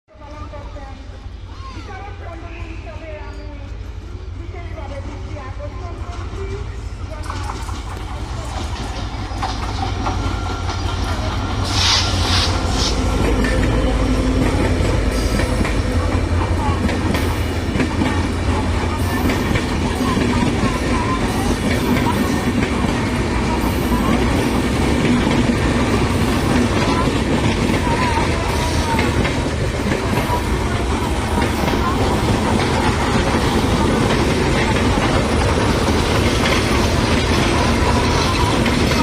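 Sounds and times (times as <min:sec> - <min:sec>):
train rumble with wheel clatter: 0:00.1 - 0:39.0.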